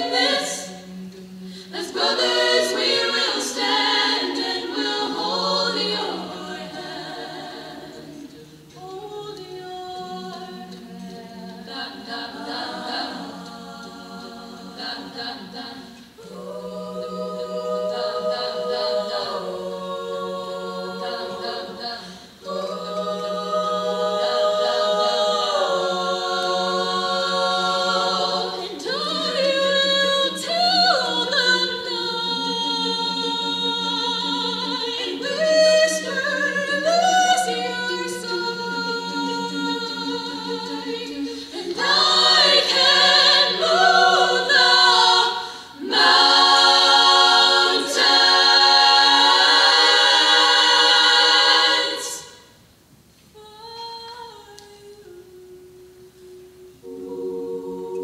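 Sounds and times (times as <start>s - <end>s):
girls' choir singing in harmony: 0.0s - 52.8s, 53.9s - 58.0s.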